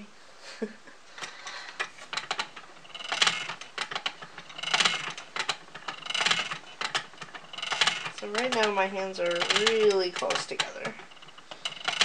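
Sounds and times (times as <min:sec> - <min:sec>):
spinning wheel clicking and rattling: 0:01.2 - 0:12.0.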